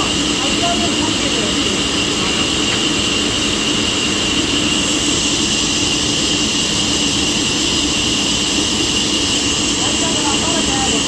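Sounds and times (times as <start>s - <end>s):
loud machine noise: 0.0s - 11.0s
sawmill saw whining: 0.0s - 11.0s.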